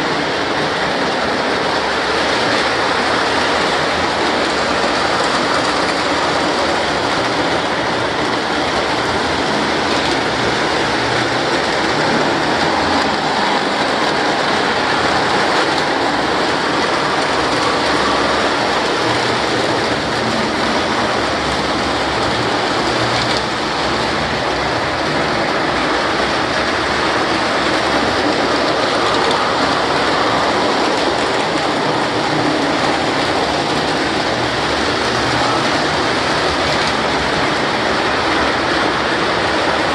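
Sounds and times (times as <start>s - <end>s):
model trains rattling on track: 0.0s - 39.9s.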